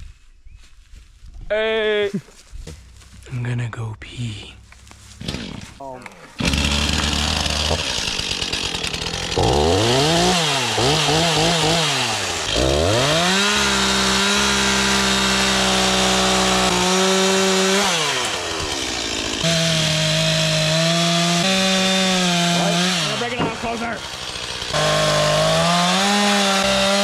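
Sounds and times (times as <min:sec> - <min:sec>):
chainsaw revving: 0:05.2 - 0:27.0.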